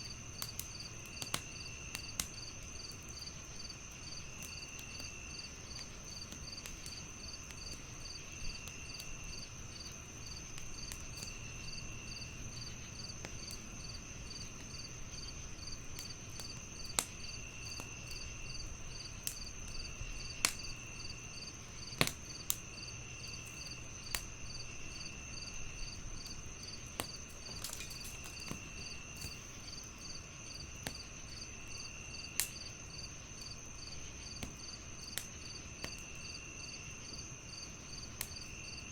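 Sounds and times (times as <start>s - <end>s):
crickets chirping: 0.0s - 38.9s
wood fire crackling: 0.0s - 38.9s
fire popping: 0.1s - 38.9s.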